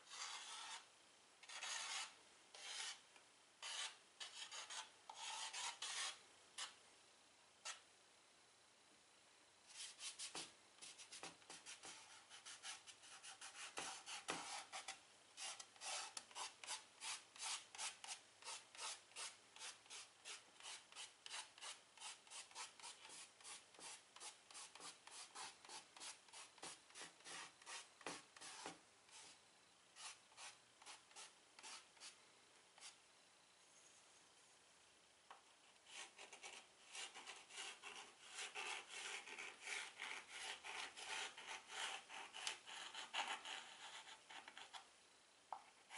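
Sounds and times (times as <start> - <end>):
chalk scratching on chalkboard: 0.1 - 3.0, 3.6 - 6.8, 9.7 - 29.4, 30.0 - 32.2, 32.8 - 33.0, 35.9 - 44.8.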